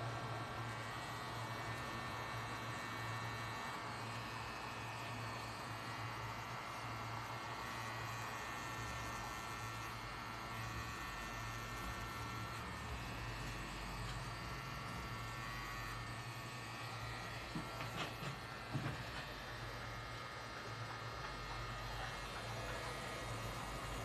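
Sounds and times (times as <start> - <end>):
tattoo machine buzzing: 0.0 - 24.0.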